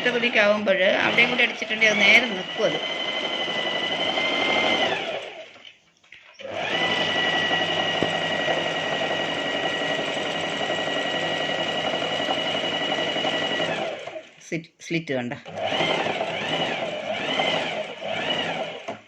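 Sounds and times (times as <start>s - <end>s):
sewing machine stitching: 0.0s - 14.4s, 15.4s - 19.0s.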